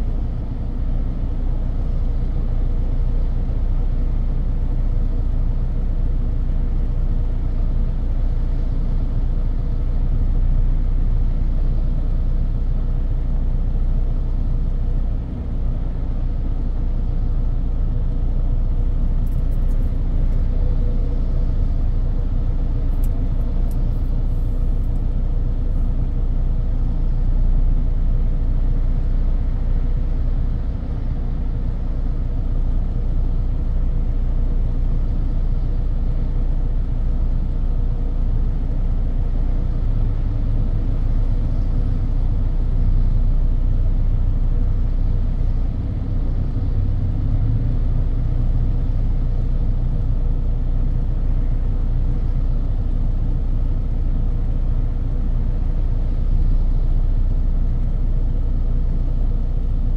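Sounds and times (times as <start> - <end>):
low rumble of tyres and engine: 0.0 - 59.9.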